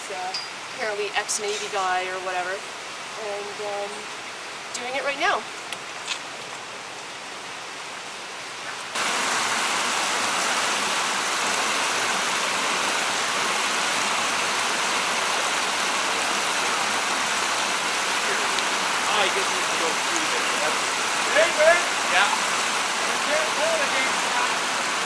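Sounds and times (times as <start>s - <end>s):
flowing water rushing: 0.0s - 25.0s.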